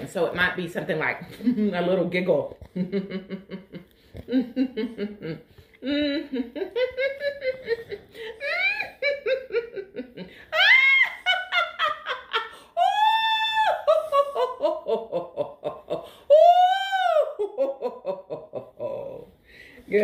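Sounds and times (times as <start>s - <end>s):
woman laughing: 2.6s - 19.3s.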